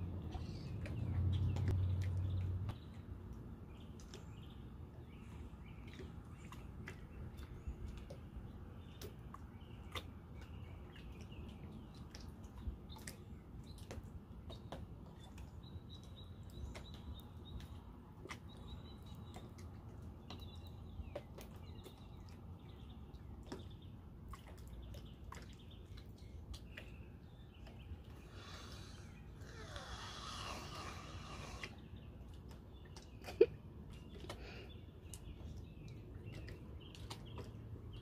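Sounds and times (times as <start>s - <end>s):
low rumble of wind and water: 0.0s - 38.0s
water lapping: 0.0s - 38.0s.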